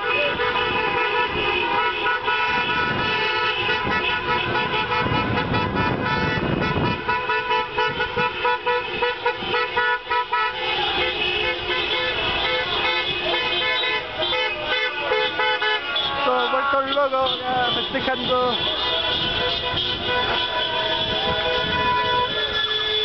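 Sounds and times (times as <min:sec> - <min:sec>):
car horns honking: 0:00.0 - 0:23.0.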